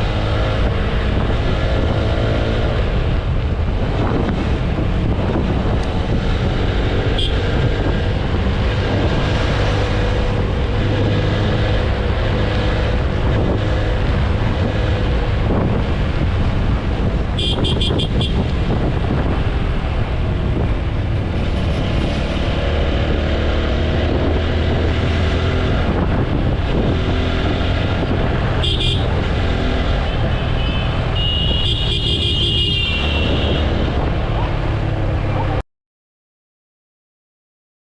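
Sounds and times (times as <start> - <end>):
wind and road noise: 0.0 - 35.6.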